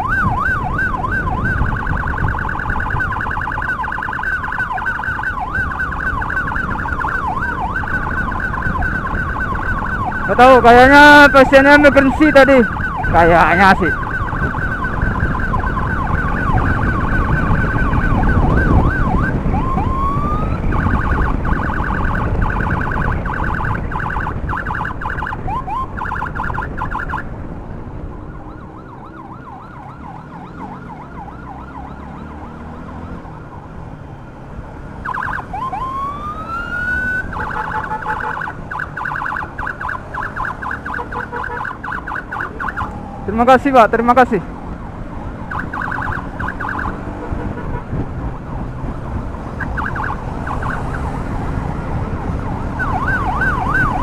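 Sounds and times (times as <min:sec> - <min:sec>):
emergency siren yelp and wail: 0:00.0 - 0:54.0
wind and road noise: 0:00.0 - 0:54.0.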